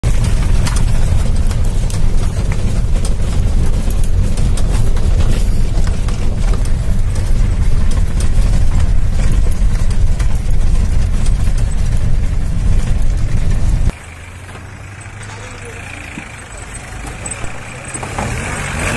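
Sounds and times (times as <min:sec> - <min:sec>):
heavy engine rumble: 0:00.0 - 0:18.9
knocks and rattles of vehicle body: 0:00.0 - 0:18.9
tyres crunching over rocks: 0:00.0 - 0:18.9.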